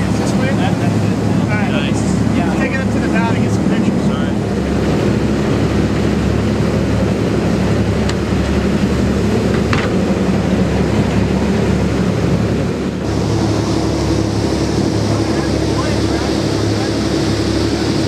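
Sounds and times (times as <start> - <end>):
boat engine droning: 0.0 - 18.0
hiss of churning wake: 0.0 - 18.0
water rushing along hull: 0.0 - 18.0.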